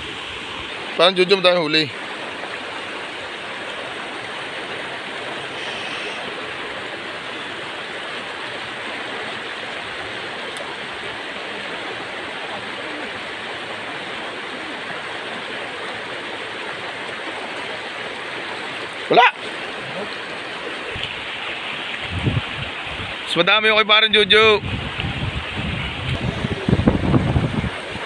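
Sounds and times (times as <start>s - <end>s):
water rushing over rocks: 0.0s - 28.0s.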